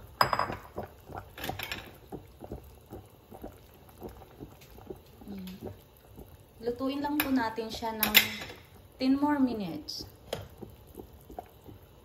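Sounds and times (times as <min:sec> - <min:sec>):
broth boiling in a stockpot: 0:00.0 - 0:12.0.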